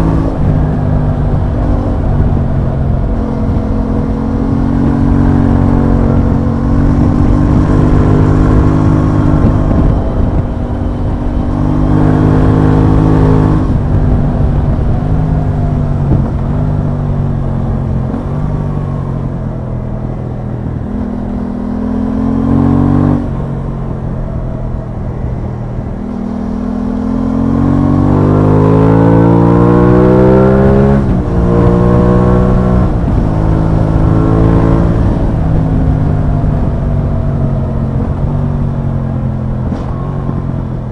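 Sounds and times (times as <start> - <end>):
motorcycle engine accelerating: 0.0 - 40.9
road noise: 0.0 - 40.9
rushing wind: 0.0 - 40.9.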